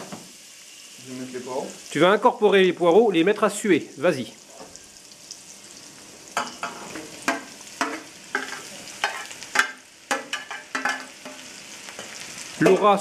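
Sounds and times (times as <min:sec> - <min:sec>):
leeks sizzling in butter: 0:00.0 - 0:13.0.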